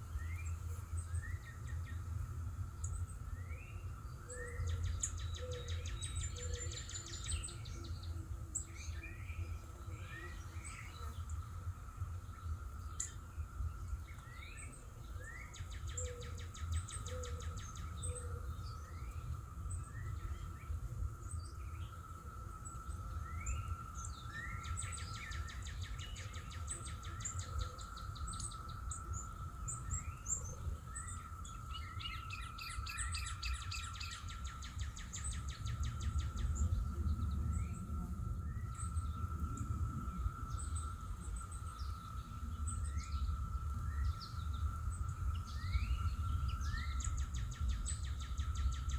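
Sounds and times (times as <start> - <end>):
constant low rumble: 0.0 - 48.9
songbirds chirping and trilling: 0.0 - 48.9.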